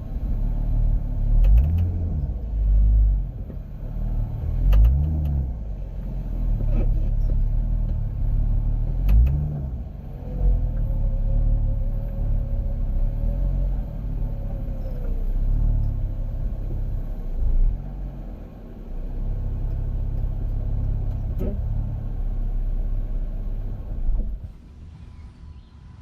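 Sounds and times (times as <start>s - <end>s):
car engine low rumble: 0.0s - 26.0s.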